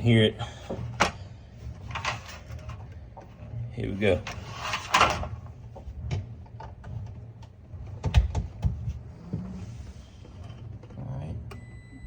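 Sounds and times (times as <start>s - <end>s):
refrigerator humming: 0.0s - 12.0s.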